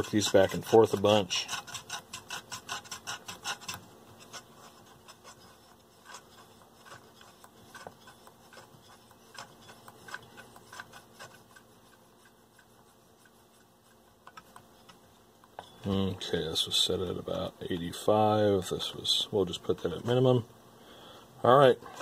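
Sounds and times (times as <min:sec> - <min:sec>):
potentiometers clicking and rubbing: 0:00.0 - 0:18.3.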